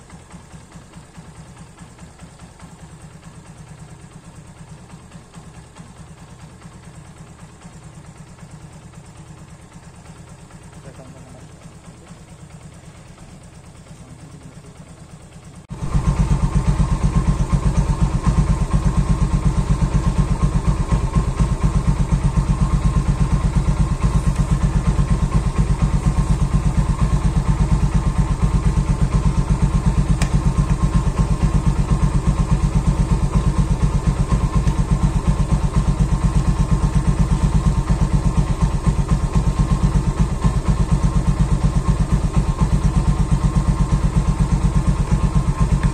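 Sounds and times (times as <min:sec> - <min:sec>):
faint engine idling: 0:00.0 - 0:45.9
tyre inflator compressor chugging: 0:00.0 - 0:45.9.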